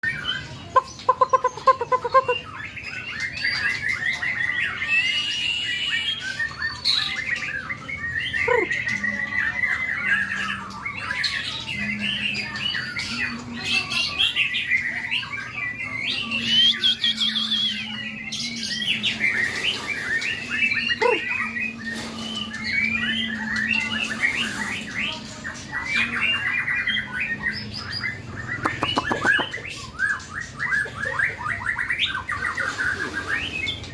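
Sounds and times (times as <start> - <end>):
chorus of caged birds chirping: 0.0 - 33.9.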